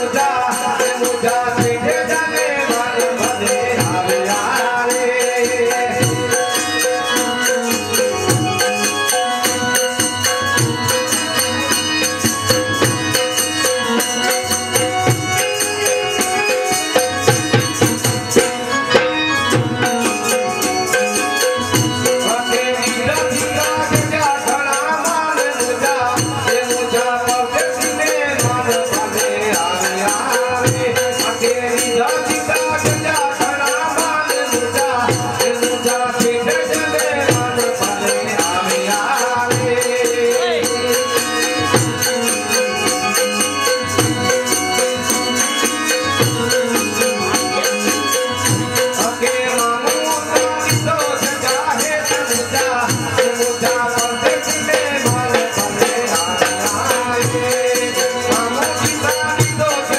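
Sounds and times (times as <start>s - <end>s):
harmonium drone and melody: 0.0s - 59.9s
drum beating: 0.1s - 59.9s.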